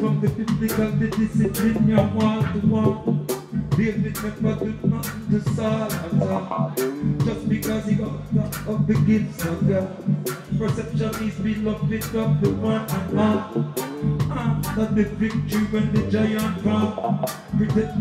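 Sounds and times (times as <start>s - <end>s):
reggae band playing: 0.0s - 18.0s
steady drum beat: 0.0s - 18.0s.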